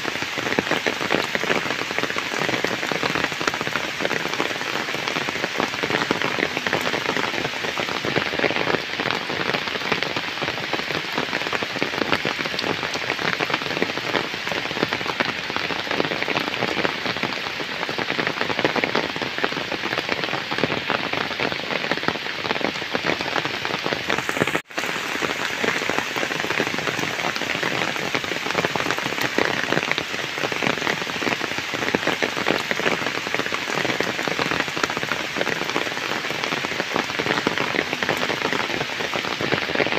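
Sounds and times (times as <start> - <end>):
heavy rain on standing water: 0.0 - 39.9.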